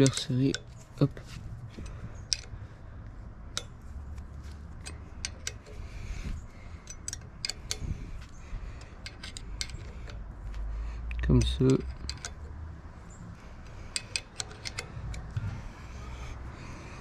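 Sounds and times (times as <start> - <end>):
hex key clicking on bolts: 0.0 - 1.0, 1.7 - 2.7, 3.5 - 15.5.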